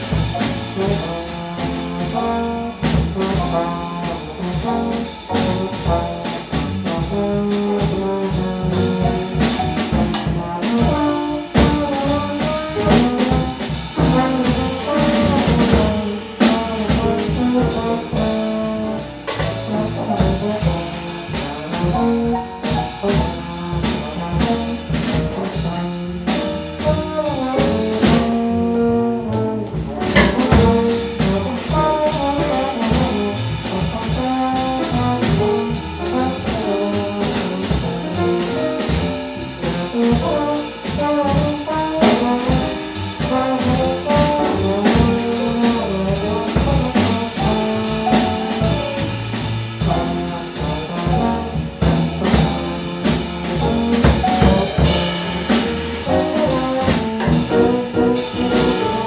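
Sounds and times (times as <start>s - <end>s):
brass horn melody: 0.0s - 59.0s
cymbals: 0.0s - 59.0s
drums: 0.0s - 59.0s
small jazz band playing: 0.0s - 59.0s.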